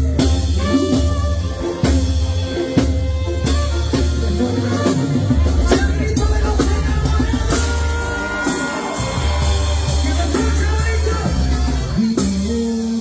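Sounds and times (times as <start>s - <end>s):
brass melody: 0.0s - 12.4s
drum strikes: 0.0s - 12.8s
steady bass line: 0.0s - 13.0s.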